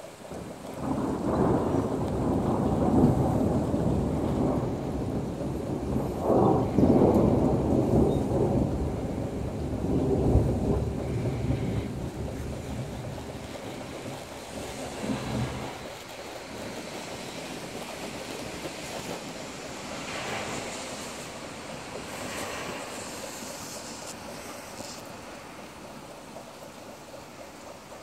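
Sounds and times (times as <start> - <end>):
rain hiss: 0.0 - 28.0
thunder rolling: 0.0 - 28.0.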